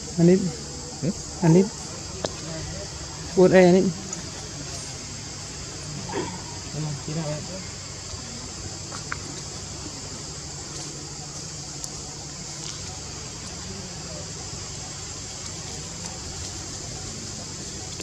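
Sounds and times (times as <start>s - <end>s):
high-pitched insect buzz: 0.0s - 18.0s.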